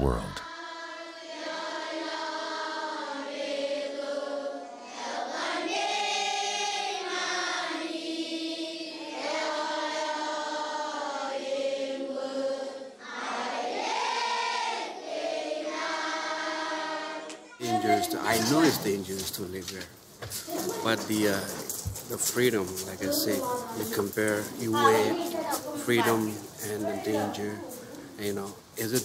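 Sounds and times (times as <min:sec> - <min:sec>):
group singing together: 0:00.0 - 0:19.1, 0:20.5 - 0:28.4.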